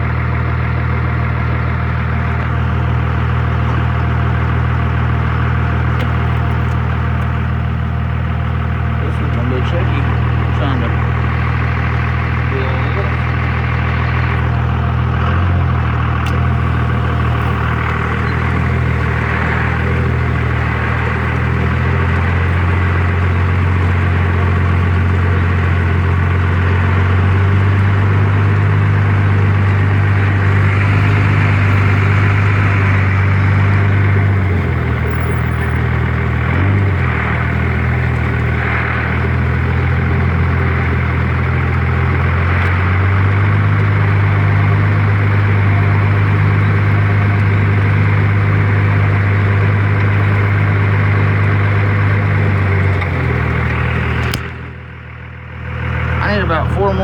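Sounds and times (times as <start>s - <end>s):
truck engine humming: 0.0s - 57.0s.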